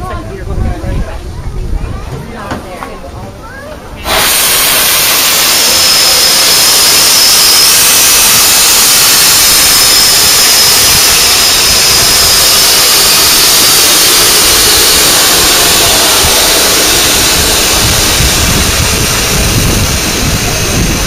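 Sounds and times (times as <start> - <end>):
steam hissing: 4.0 - 21.0.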